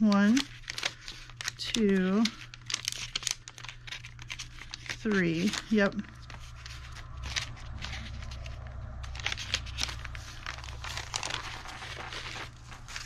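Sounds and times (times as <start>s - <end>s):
paper rustling: 0.0s - 13.0s
steady low hum: 0.0s - 13.0s.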